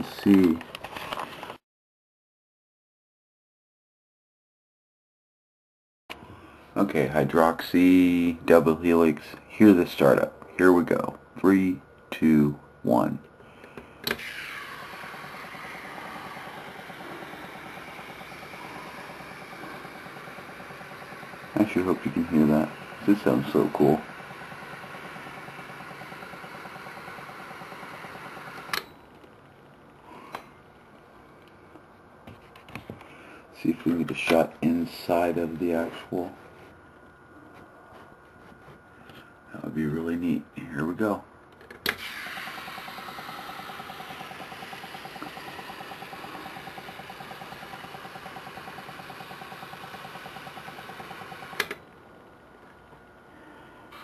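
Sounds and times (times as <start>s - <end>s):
generator fizzing hum: 6.1s - 54.0s.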